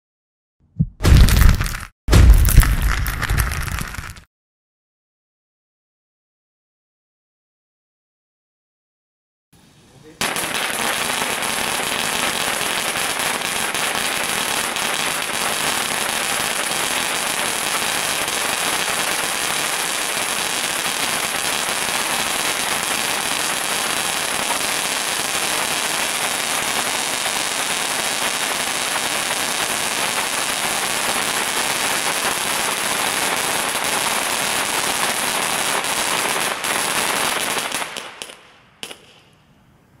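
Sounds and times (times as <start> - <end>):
firework crack: 0.8 - 4.3, 10.0 - 39.6
firework fountain crackling: 1.0 - 4.3, 9.6 - 39.3.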